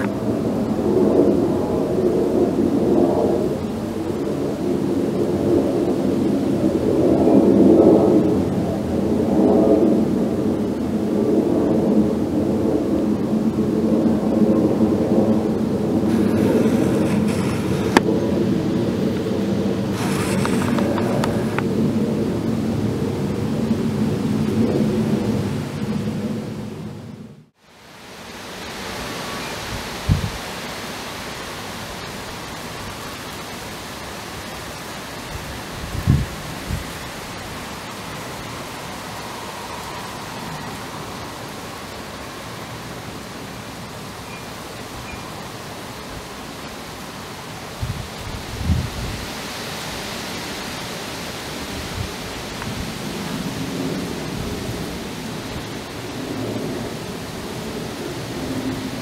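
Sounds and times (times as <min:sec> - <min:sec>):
distant jet engine roar: 0:00.0 - 0:59.0.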